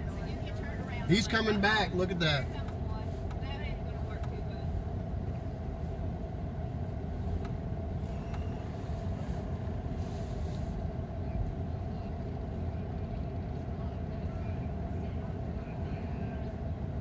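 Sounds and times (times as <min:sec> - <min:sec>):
constant hum: 0:00.0 - 0:17.0
vehicle engine rumble: 0:00.0 - 0:17.0.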